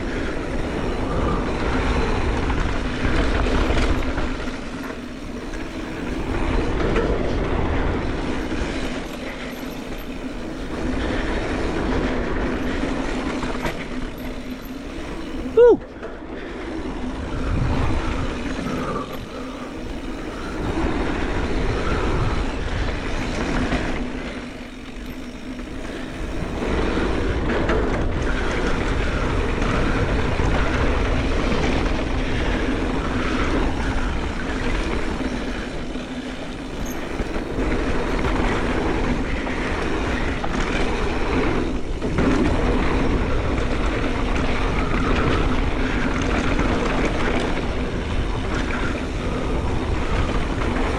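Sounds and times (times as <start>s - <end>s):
bike tyres rumbling over dirt: 0.0s - 50.9s
wind rushing over microphone: 0.0s - 50.9s.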